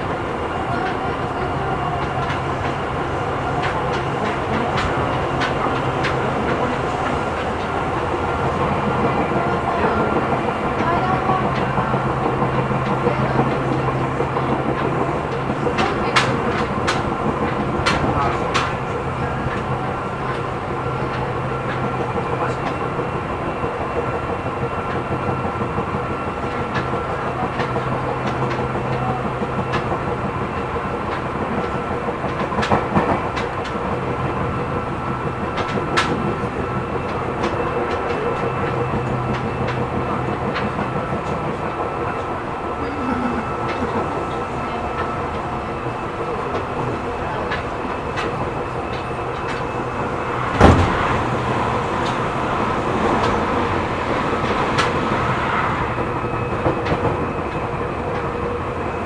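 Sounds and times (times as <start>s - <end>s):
train rumble and hum: 0.0s - 59.0s.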